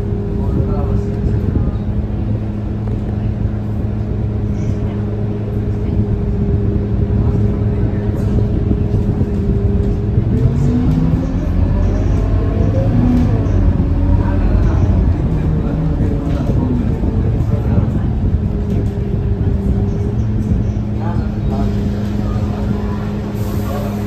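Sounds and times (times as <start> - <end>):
bus diesel engine idling: 0.0 - 24.0.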